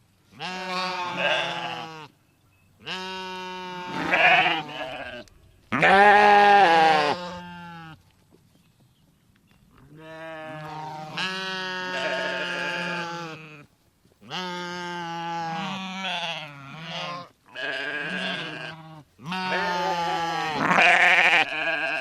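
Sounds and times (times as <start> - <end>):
sheep bleating: 0.4 - 2.1, 2.8 - 8.0, 9.9 - 22.0.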